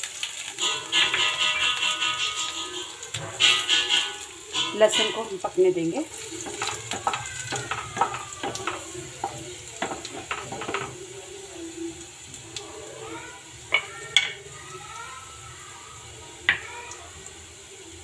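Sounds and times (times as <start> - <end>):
spices crackling in hot oil: 0.0 - 18.0.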